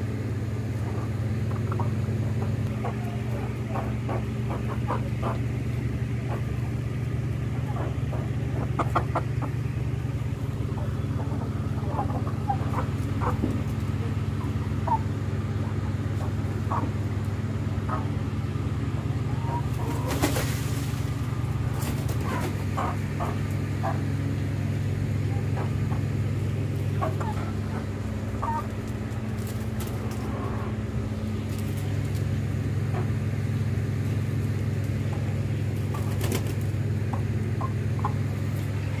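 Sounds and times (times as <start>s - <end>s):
chickens clucking: 0.0s - 39.0s
low motor hum: 0.0s - 39.0s.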